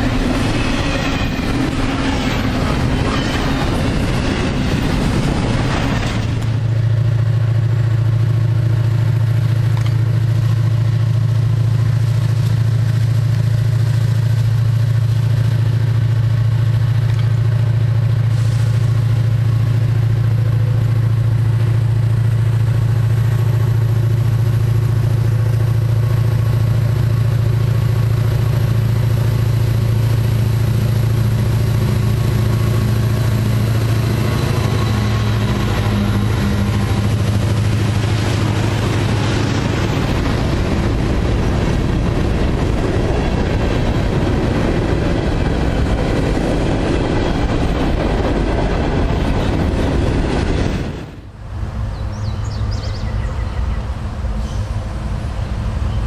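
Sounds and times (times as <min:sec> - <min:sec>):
diesel locomotive engine drone: 0:00.0 - 0:56.0
train cars wheel and rail clatter: 0:00.0 - 0:56.0.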